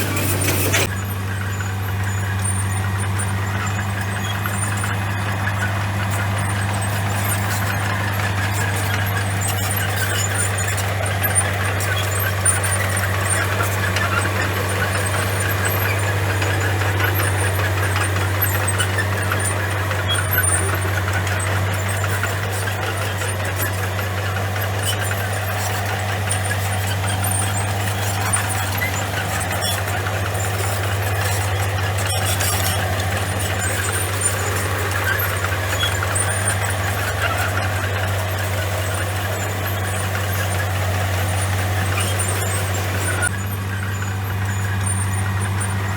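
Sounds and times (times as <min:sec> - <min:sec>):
bulldozer diesel engine humming: 0:00.0 - 0:45.9
high squeaks and clicks: 0:00.0 - 0:45.9.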